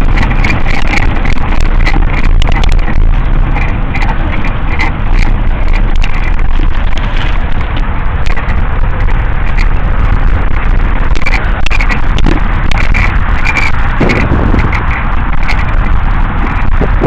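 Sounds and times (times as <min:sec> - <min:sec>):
bike rattling over bumps: 0:00.0 - 0:17.0
tyres rumbling on dirt: 0:00.0 - 0:17.0
wind buffeting microphone: 0:00.0 - 0:17.0.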